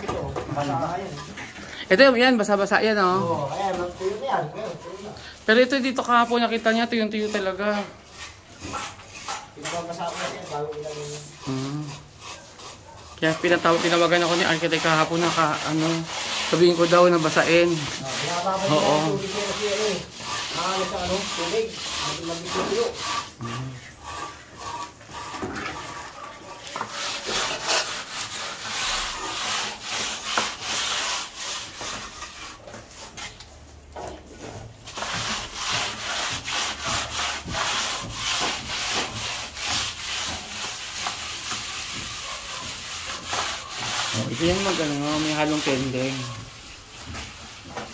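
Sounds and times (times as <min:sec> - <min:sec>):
plastering tool scraping render: 0:00.0 - 0:47.9.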